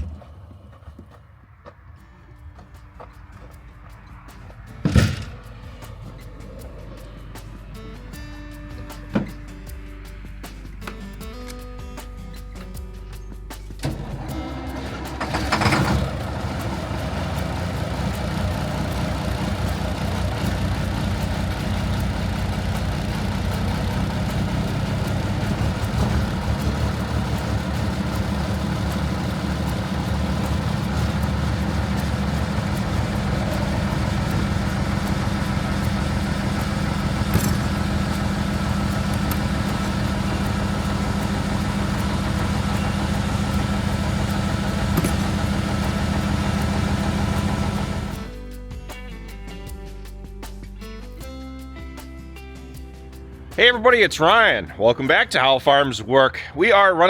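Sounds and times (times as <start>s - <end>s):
vehicle engine running: 0.0s - 11.6s, 13.3s - 48.4s.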